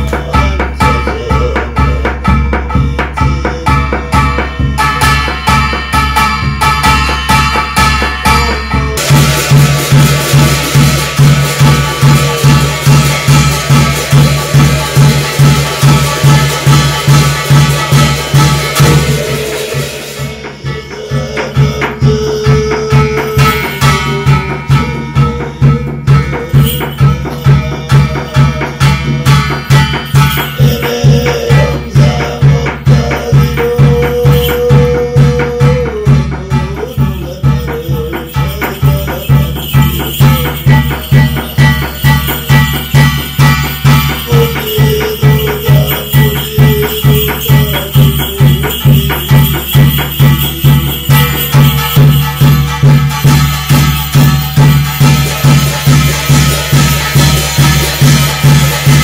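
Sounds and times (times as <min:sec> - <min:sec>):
drum beating steadily: 0:00.0 - 0:59.0
held pitched tone: 0:00.0 - 0:59.0
jingling rattling percussion: 0:00.0 - 0:59.0.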